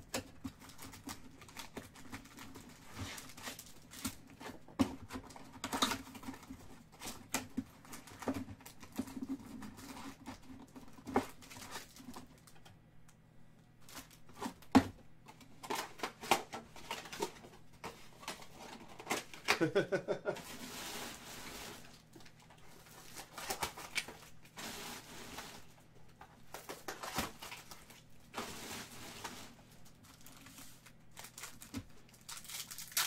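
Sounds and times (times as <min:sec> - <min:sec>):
foil packs crinkling: 0:00.1 - 0:12.6, 0:15.6 - 0:25.8, 0:26.4 - 0:33.0.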